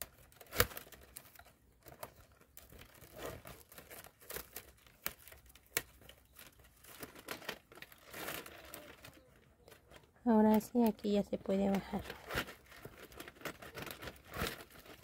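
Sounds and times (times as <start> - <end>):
palm leaves crinkling and rustling: 0.0 - 15.0.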